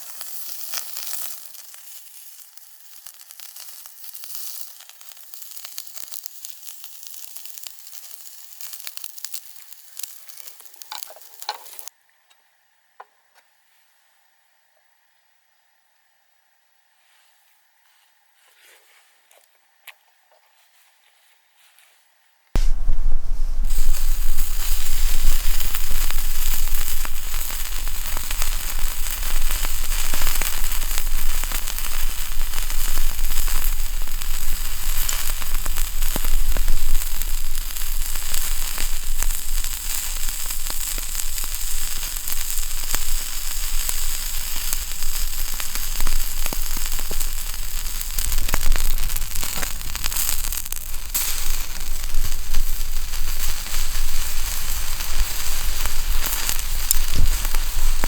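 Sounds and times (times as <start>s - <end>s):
fire crackling and popping: 0.0s - 11.9s, 22.6s - 58.0s
wood fire hissing: 0.0s - 11.9s, 22.6s - 58.0s.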